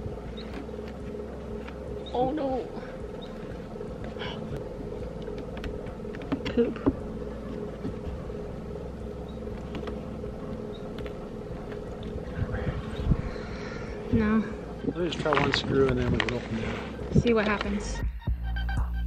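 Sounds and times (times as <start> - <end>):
steady hum: 0.0 - 18.8.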